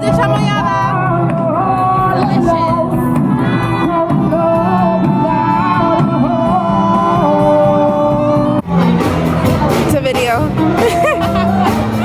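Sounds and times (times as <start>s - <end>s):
latin dance band playing: 0.0s - 12.0s.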